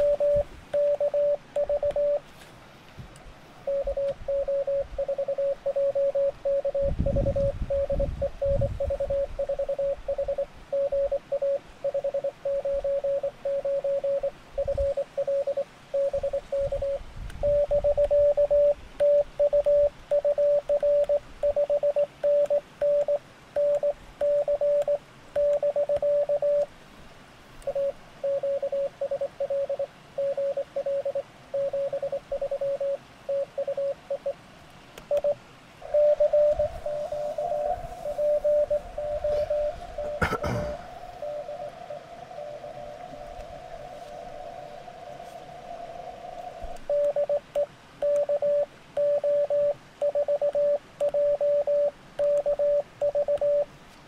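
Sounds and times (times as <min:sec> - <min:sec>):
morse code tones: 0:00.0 - 0:02.2, 0:03.7 - 0:26.7, 0:27.7 - 0:34.4, 0:35.1 - 0:43.2, 0:46.8 - 0:53.7.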